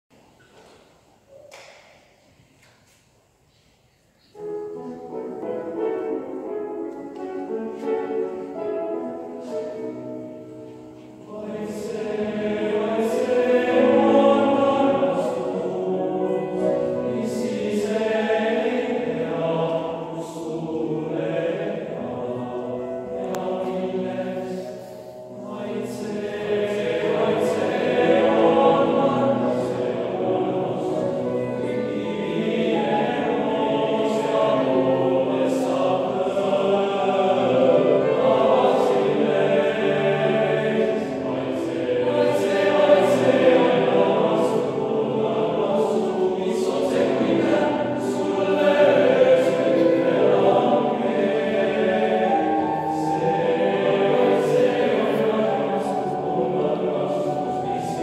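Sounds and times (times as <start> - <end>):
male choir singing: 7.3 - 58.0.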